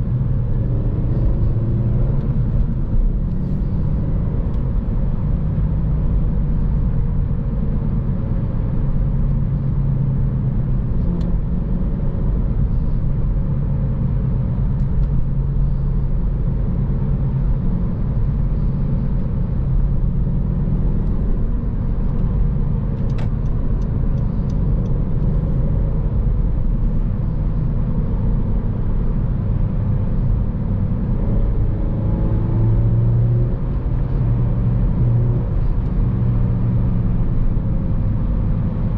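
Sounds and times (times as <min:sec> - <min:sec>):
car engine running: 0:00.0 - 0:38.9
road and tyre rumble: 0:00.0 - 0:38.9.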